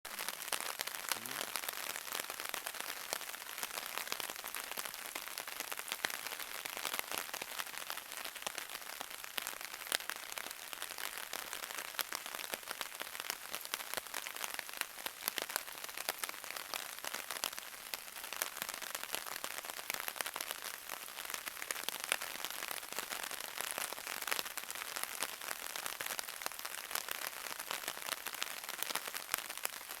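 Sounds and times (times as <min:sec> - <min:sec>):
steady rain falling: 0:00.1 - 0:30.0.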